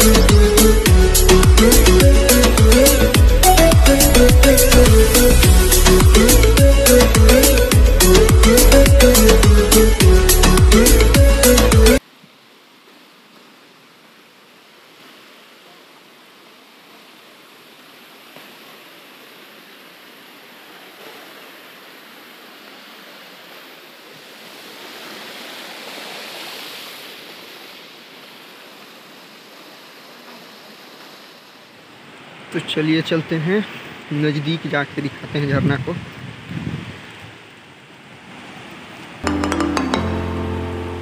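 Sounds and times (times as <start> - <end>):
waterfall rushing: 0.0 - 12.0, 13.7 - 34.6, 39.2 - 41.0
rocky stream: 0.0 - 41.0.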